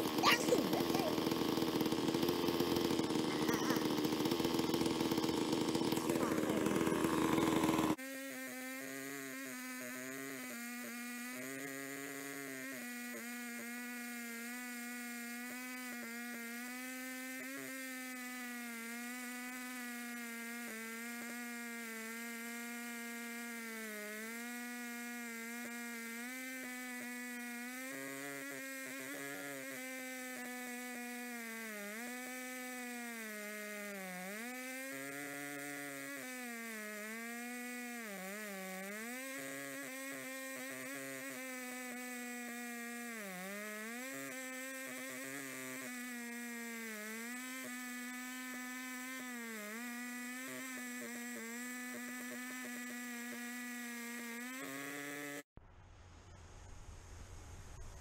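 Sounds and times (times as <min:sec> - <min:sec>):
chainsaw cutting through log: 0:00.0 - 0:55.5.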